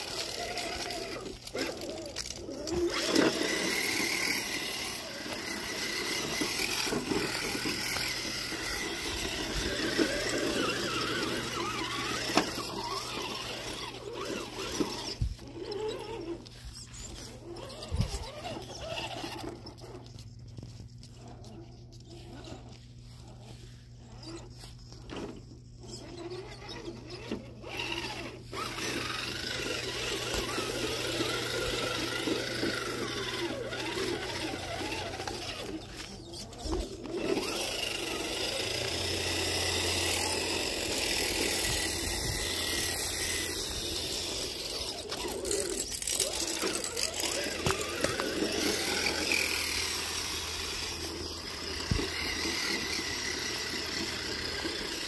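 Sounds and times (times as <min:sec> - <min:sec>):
toy truck electric motor whining: 0:00.0 - 0:55.0.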